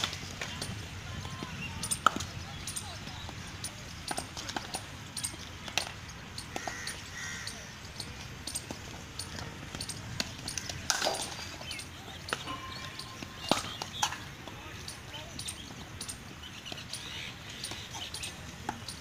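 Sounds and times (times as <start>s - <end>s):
cricket balls knocking off bats: 0.0s - 19.0s.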